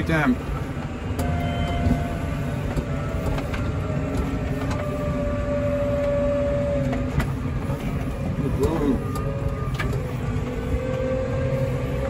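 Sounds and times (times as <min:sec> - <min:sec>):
steady whine: 0:00.0 - 0:12.0
tractor engine running: 0:00.0 - 0:12.0.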